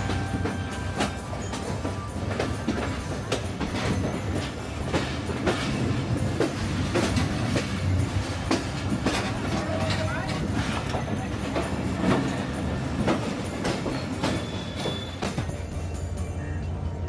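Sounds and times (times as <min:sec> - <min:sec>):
wheels clacking over rails: 0:00.0 - 0:16.1
train rumbling: 0:00.0 - 0:17.0.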